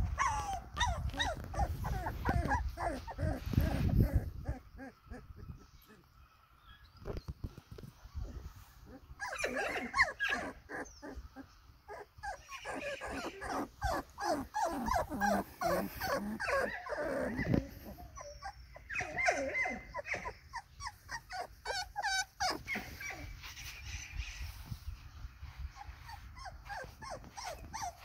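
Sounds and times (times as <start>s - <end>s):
puppies growling whining and yipping: 0.0s - 6.1s, 8.1s - 28.0s.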